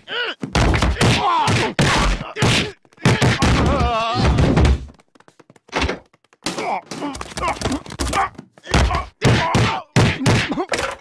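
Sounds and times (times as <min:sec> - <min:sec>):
pained groans and yelps: 0:00.0 - 0:04.7, 0:06.5 - 0:11.0
cartoon punches and thuds: 0:00.4 - 0:04.9, 0:05.7 - 0:11.0.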